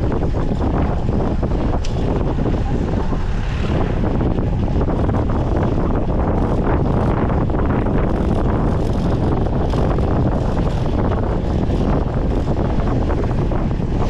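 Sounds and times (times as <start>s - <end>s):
wind buffeting a microphone: 0.0s - 14.0s.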